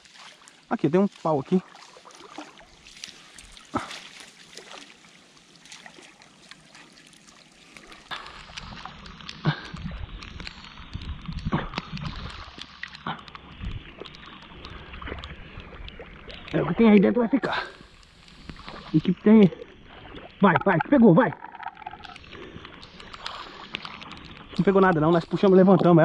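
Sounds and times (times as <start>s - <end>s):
shallow water splashing: 0.0s - 26.0s.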